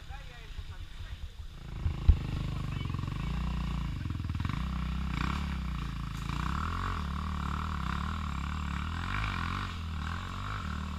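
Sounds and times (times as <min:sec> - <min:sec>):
motorcycle engine revving: 0:01.5 - 0:10.9.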